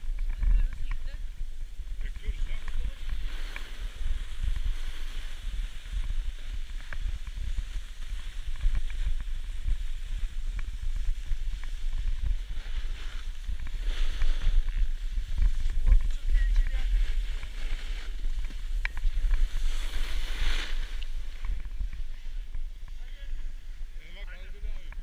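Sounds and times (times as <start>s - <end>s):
wind buffeting microphone: 0.0s - 24.0s
snowboard hissing on snow: 1.2s - 22.4s.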